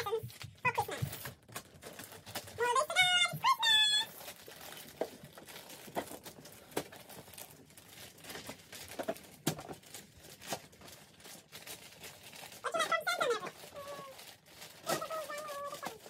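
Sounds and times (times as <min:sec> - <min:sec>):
wrapping paper crinkling: 0:00.0 - 0:16.0.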